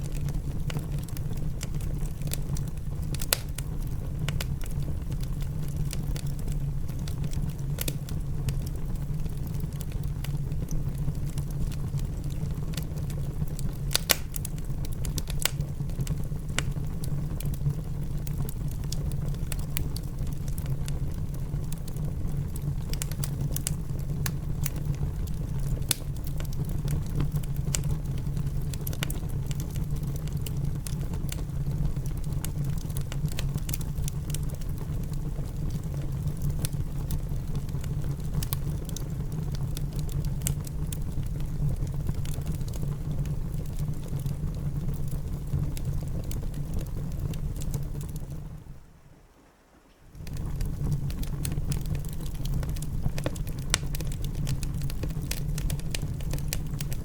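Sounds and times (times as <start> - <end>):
low rumble of fire: 0.0 - 57.0
rain pattering: 0.0 - 57.0
wood fire crackling: 0.0 - 57.0.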